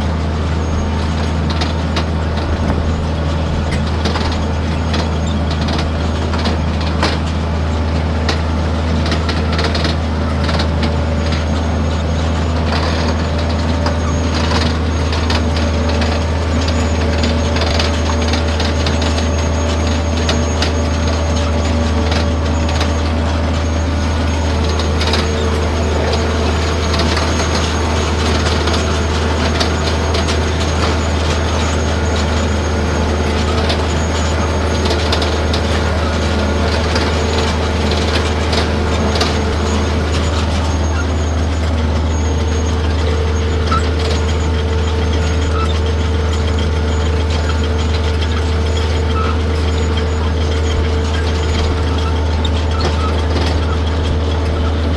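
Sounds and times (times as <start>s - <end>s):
deep engine drone: 0.0s - 54.9s
harvesting machinery clatter: 0.0s - 54.9s.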